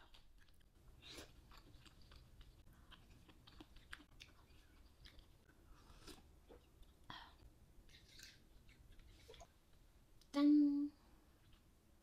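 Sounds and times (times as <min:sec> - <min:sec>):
faint chewing: 0:00.0 - 0:09.8, 0:11.4 - 0:11.7.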